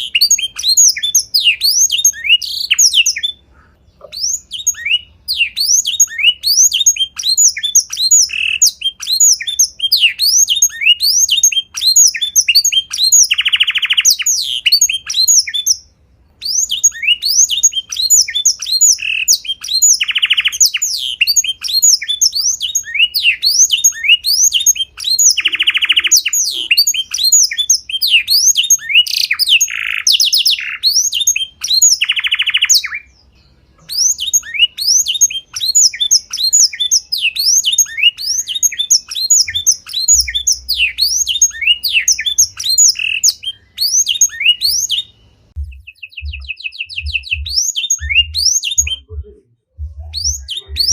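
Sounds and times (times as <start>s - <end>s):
songbird whistled notes: 0.0s - 49.2s, 49.8s - 50.9s.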